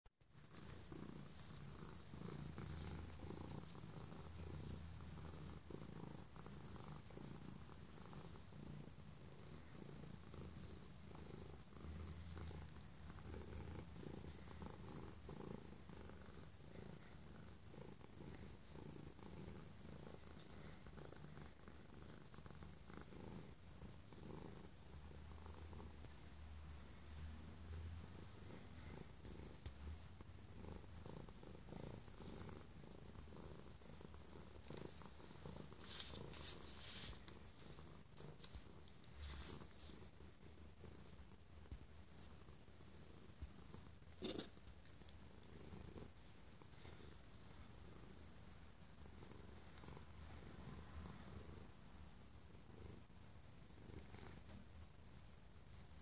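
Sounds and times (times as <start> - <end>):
cat purring: 0.2 - 56.0.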